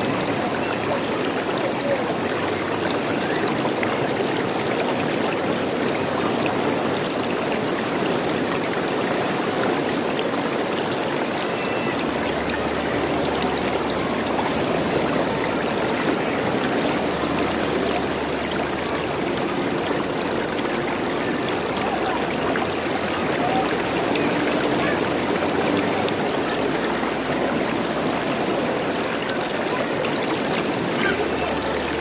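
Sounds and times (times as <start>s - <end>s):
running water gurgling: 0.0s - 32.0s.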